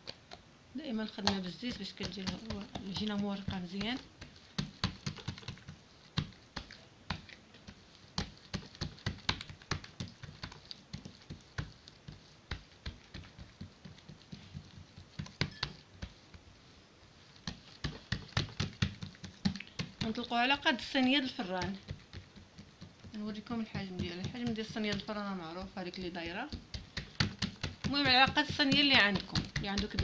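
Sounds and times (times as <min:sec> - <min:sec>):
hands slapping dough: 0:00.0 - 0:30.0.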